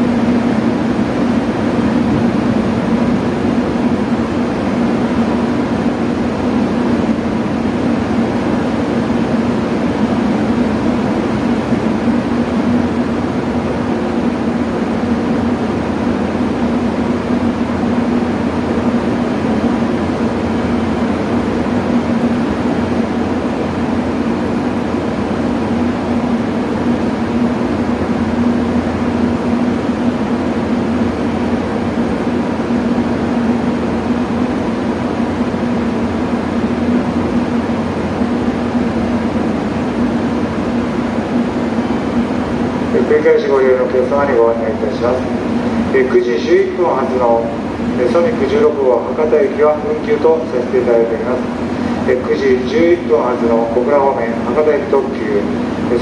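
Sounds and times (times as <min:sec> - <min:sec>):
electric train equipment humming: 0:00.0 - 0:56.0.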